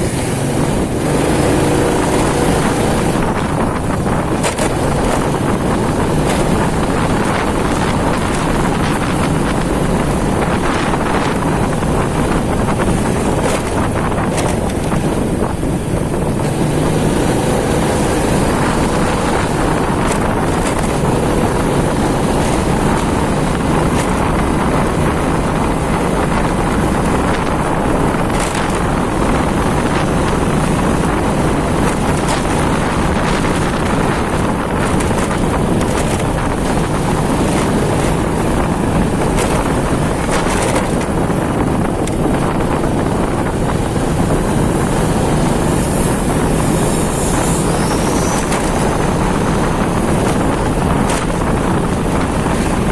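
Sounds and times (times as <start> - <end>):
motorcycle engine running: 0.0 - 52.9
wind rush on microphone: 0.0 - 52.9.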